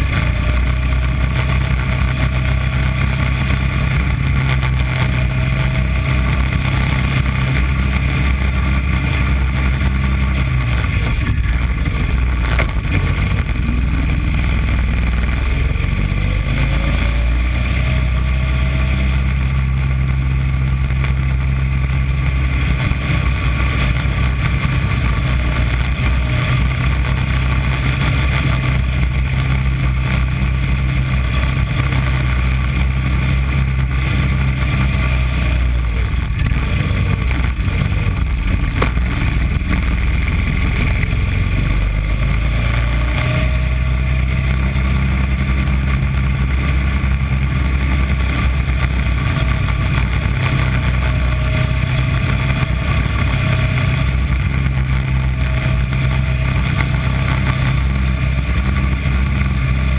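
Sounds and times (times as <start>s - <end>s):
small race car engine running: 0.0s - 59.9s.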